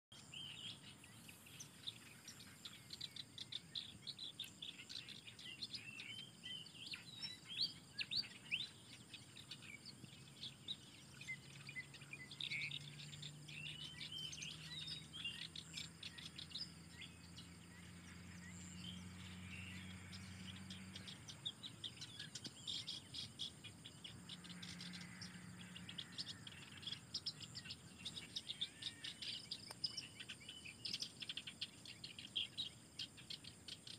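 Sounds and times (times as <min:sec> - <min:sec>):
birds chirping: 0:00.1 - 0:33.9
insects buzzing: 0:00.2 - 0:33.9.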